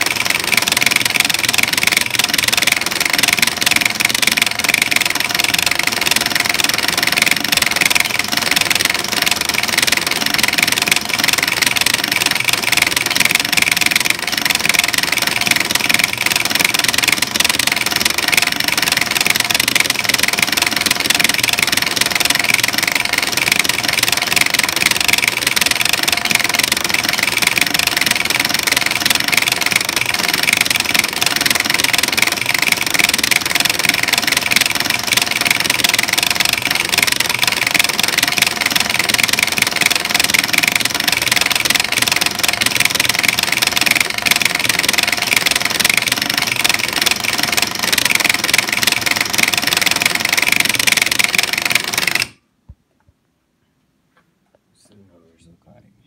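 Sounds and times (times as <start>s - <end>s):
rapid button pressing clatter: 0.0s - 52.4s.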